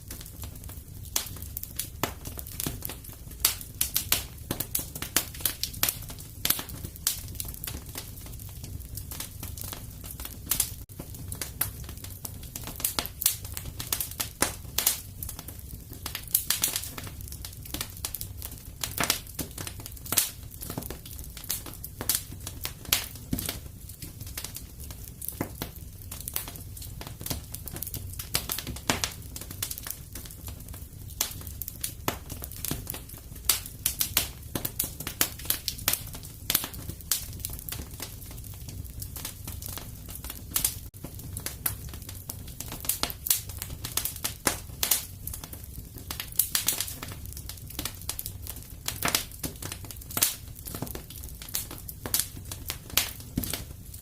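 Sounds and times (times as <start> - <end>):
fire crackling: 0.0 - 54.0
low fire rumble: 0.0 - 54.0.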